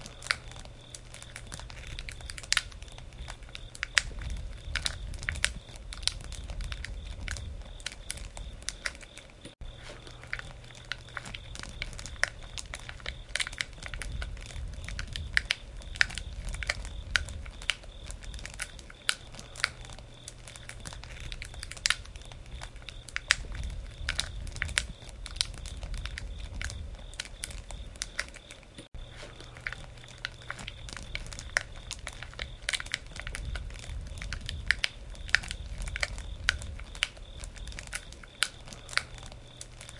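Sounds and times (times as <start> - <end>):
campfire crackling: 0.0 - 39.9
sharp pops of fire: 0.0 - 39.9.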